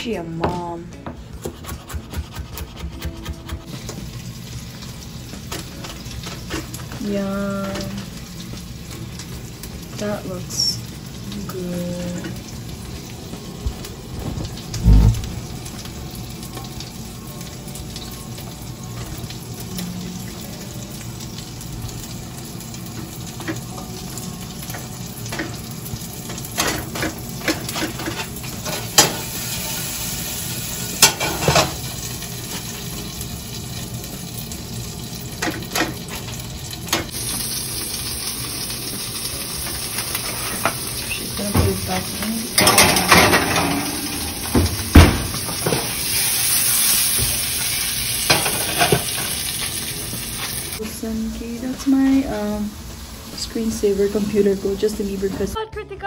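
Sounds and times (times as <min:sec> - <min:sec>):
sausages sizzling in a frying pan: 0:03.6 - 0:55.6.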